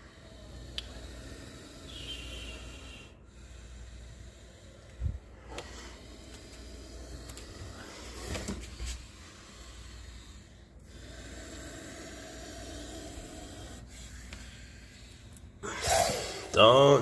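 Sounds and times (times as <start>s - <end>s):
snake hissing: 0.0s - 17.0s.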